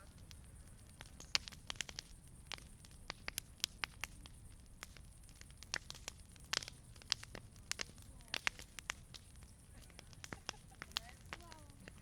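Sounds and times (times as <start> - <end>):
campfire crackling and popping: 0.0 - 12.0
low rumble of fire: 0.0 - 12.0.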